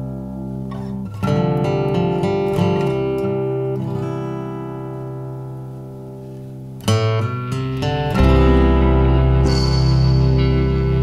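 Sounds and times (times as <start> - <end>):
acoustic guitar chord: 0.0 - 11.0.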